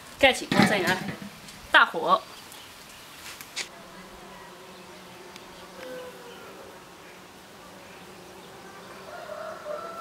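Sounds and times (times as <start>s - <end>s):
insects buzzing: 1.3s - 10.0s.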